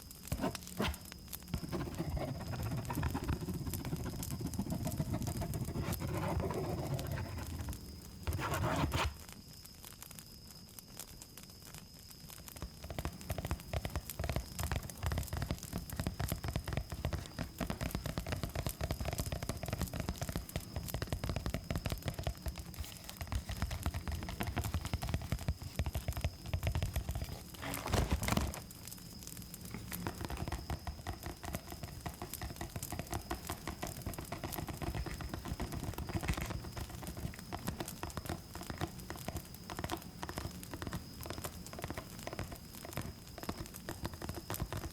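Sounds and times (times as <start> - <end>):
crickets chirring: 0.0 - 44.9.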